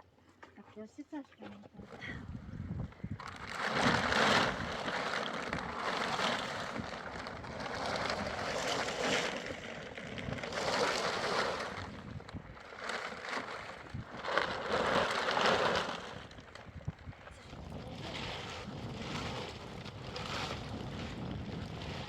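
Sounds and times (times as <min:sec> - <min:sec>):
gusting wind: 0:02.0 - 0:22.0.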